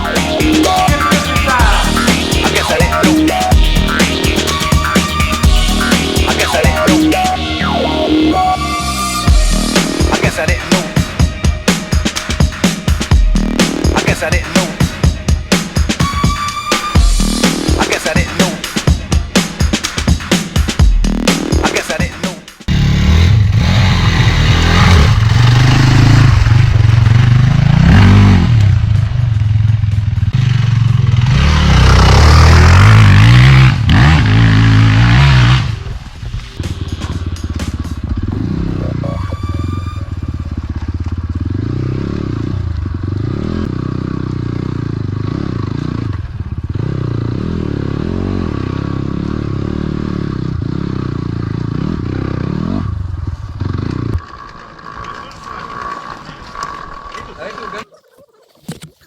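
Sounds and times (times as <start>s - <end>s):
motorcycle engine revving: 0.0s - 16.1s, 22.6s - 57.9s.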